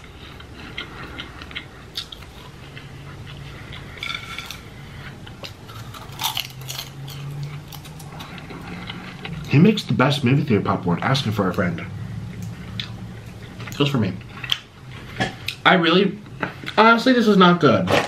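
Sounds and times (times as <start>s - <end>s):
popcorn being chewed: 0.0s - 16.8s
faint low hum: 0.0s - 18.0s.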